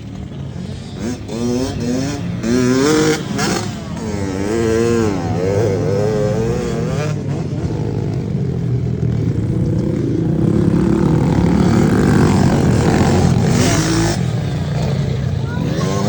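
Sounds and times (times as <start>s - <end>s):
small engines revving: 0.0s - 16.0s.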